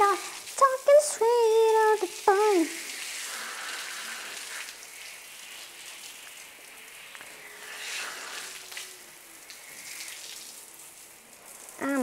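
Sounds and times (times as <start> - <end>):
water running from hose: 0.0 - 12.0.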